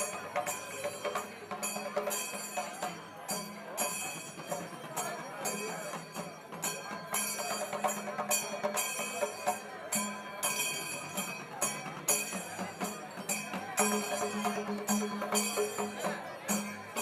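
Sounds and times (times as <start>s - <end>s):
bell-like percussion: 0.0s - 17.0s.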